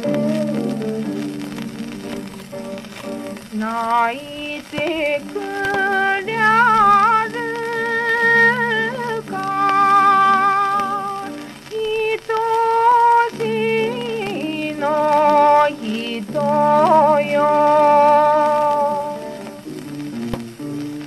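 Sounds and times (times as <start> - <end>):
old record popular music: 0.0 - 21.0.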